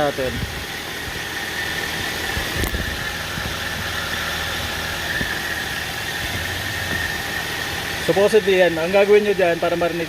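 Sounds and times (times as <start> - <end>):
car engine idling: 0.0 - 10.0
high whine: 0.0 - 10.0.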